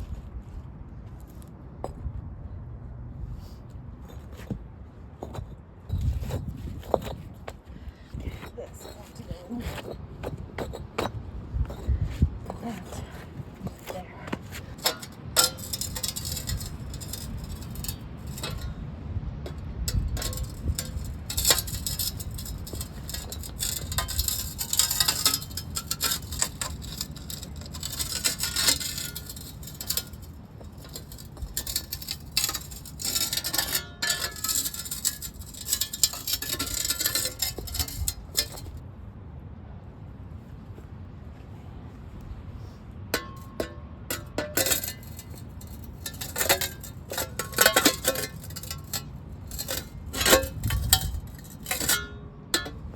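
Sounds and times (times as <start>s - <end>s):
pavers scraping and clinking: 4.0s - 18.8s, 19.4s - 38.8s, 43.2s - 52.9s.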